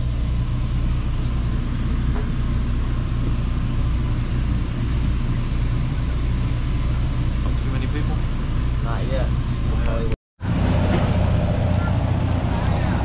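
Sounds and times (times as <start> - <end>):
ferry engine low rumbling drone: 0.0 - 13.0.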